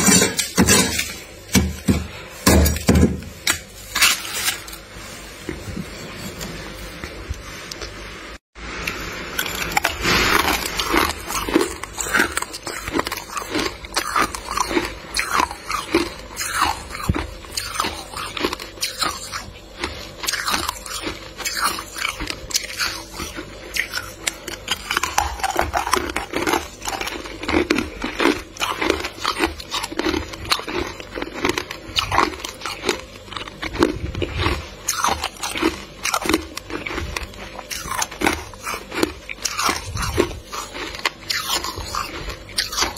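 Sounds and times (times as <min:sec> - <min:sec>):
frost crunching being chewed: 0:03.4 - 0:08.0, 0:08.8 - 0:42.9.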